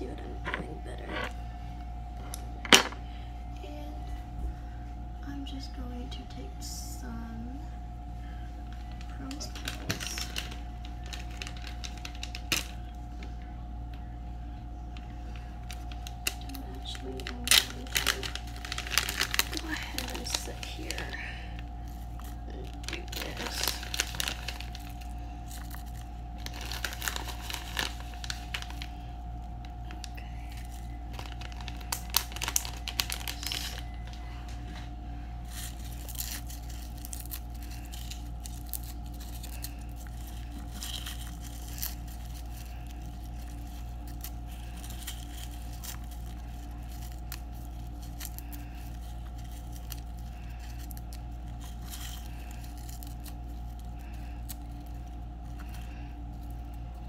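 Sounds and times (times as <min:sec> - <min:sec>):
plastic bag and petals crinkling: 0:00.0 - 0:04.7, 0:06.6 - 0:57.0
steady low hum: 0:00.0 - 0:57.0.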